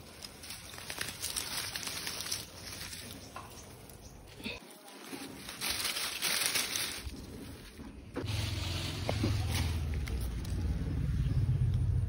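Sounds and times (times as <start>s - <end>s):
dry leaves rustling: 0.0s - 11.4s.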